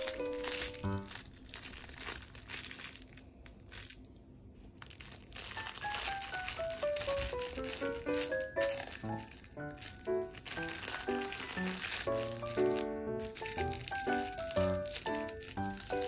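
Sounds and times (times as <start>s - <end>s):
gentle background music: 0.0s - 2.6s, 5.0s - 16.0s
crinkle toy rustling: 0.0s - 16.0s.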